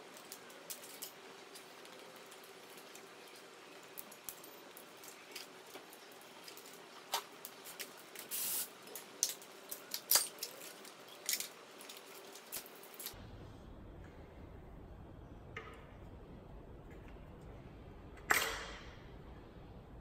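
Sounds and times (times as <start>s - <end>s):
faint workshop hum: 0.0s - 20.0s.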